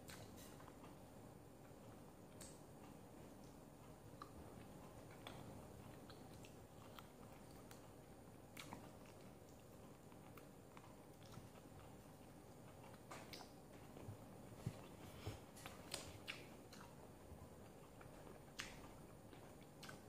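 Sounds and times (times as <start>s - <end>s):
person chewing food: 1.6s - 20.0s.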